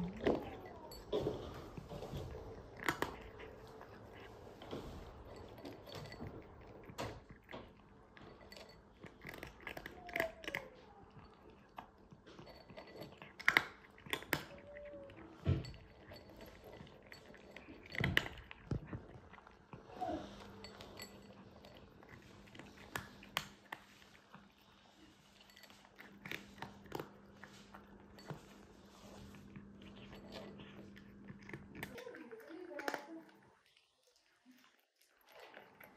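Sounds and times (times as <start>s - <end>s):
cat crunching dry kibble: 0.0s - 35.9s.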